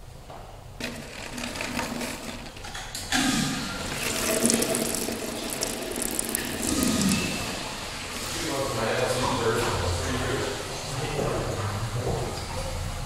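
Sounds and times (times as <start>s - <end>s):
toilet flushing: 0.8s - 13.0s.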